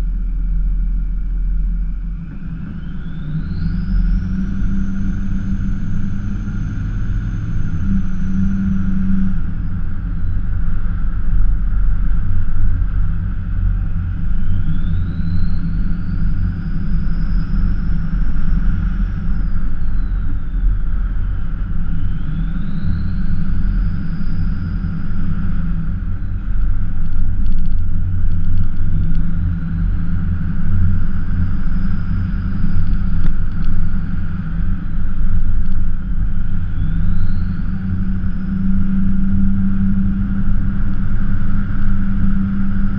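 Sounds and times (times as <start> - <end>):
faint high whine: 0.0 - 42.9
truck engine and road rumble: 0.0 - 42.9.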